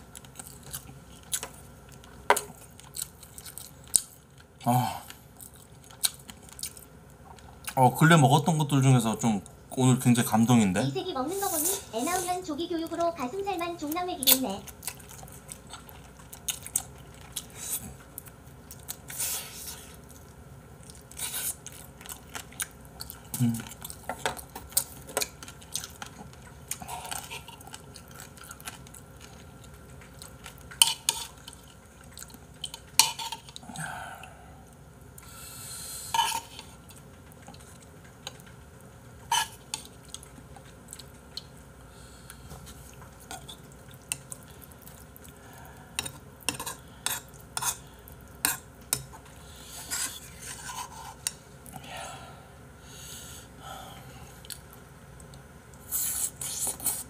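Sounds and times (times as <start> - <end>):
man chewing: 0.0 - 7.8, 14.7 - 51.8, 53.0 - 57.0.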